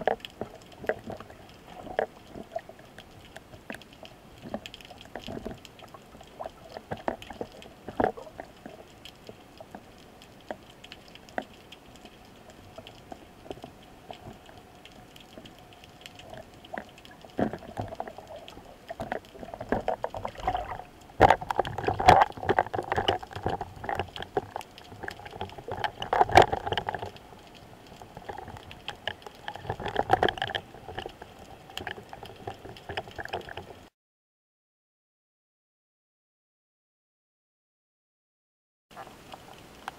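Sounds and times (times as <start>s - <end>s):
fish struggling underwater: 0.0s - 33.8s
underwater clicks and crackles: 0.0s - 33.9s, 38.9s - 39.9s.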